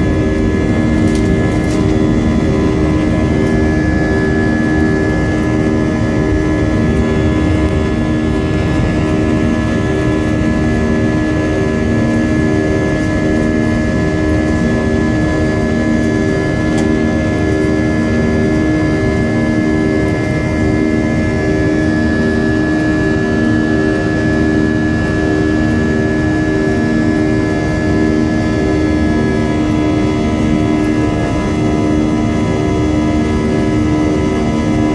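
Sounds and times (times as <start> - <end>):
jet engines droning: 0.0 - 34.9.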